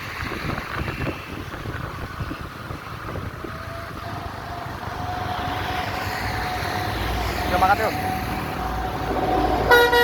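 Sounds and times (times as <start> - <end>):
wind buffeting microphone: 0.0 - 9.8
road traffic rumble: 0.0 - 10.0.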